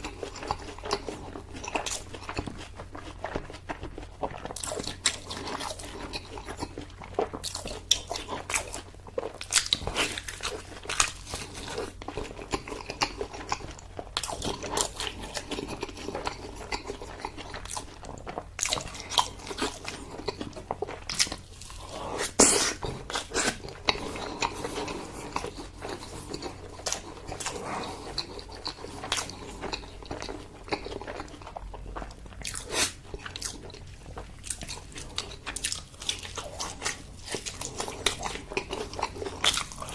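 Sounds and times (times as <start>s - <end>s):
biting and chewing: 0.0s - 39.9s.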